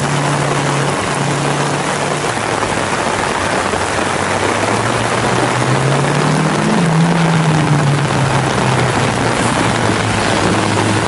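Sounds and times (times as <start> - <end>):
car engine rising in pitch: 0.0 - 11.0
heavy rain hissing: 0.0 - 11.0
rally car engine: 0.0 - 11.0.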